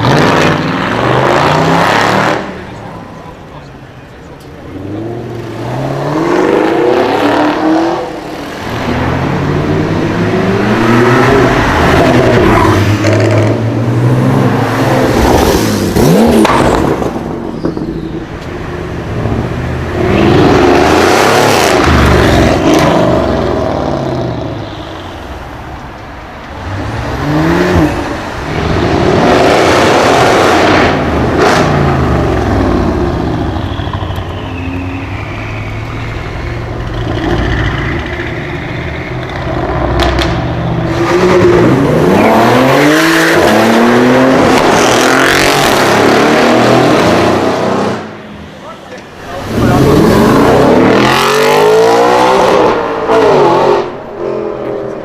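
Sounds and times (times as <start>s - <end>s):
loud cars revving and accelerating: 0.0s - 24.8s, 26.4s - 55.0s.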